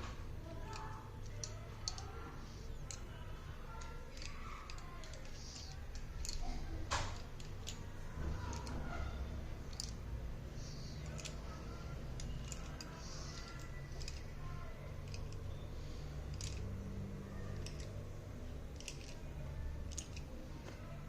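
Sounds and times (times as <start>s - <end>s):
small clicks and light taps: 0.0s - 10.0s, 10.6s - 16.8s, 17.4s - 21.0s
steady low hum: 0.0s - 21.0s.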